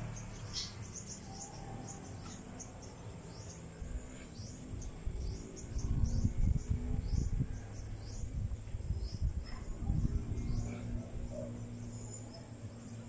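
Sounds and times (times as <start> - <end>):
birds chirping: 0.0 - 13.0
low rumble on microphone: 0.0 - 13.0.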